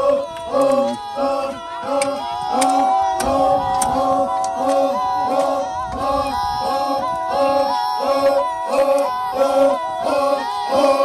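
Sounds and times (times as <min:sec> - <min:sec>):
group of voices chanting: 0:00.0 - 0:11.0
yodel-like calls: 0:00.0 - 0:11.0.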